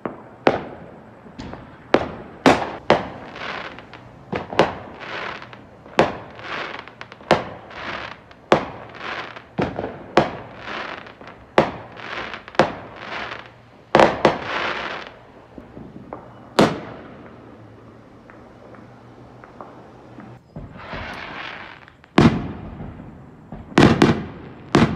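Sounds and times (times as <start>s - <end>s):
fireworks bursting: 0.0s - 24.9s.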